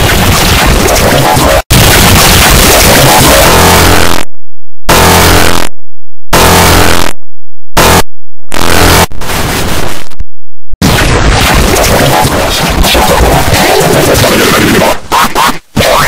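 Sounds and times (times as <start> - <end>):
distorted electronic noise bursts: 0.0 - 4.3, 4.9 - 7.2, 7.8 - 10.2, 10.8 - 16.0.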